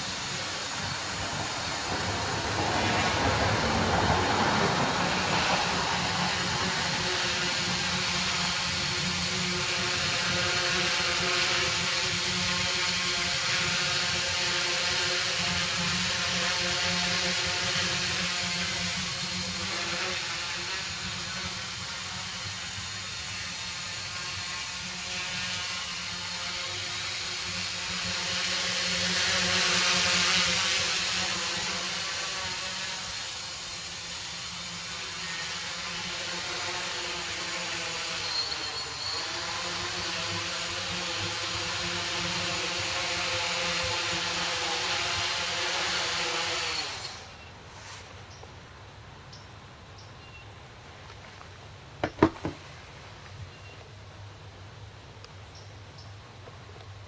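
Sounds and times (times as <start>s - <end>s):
drone motors and propellers buzzing: 0.0s - 48.4s.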